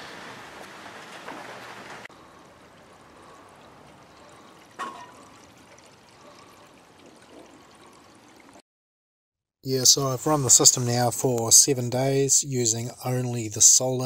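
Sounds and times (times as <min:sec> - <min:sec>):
faint steady noise: 0:00.0 - 0:08.6, 0:09.7 - 0:14.0.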